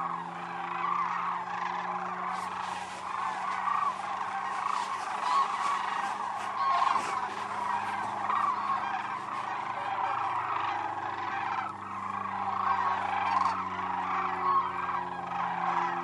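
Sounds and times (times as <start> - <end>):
cranes calling: 0.0 - 16.0.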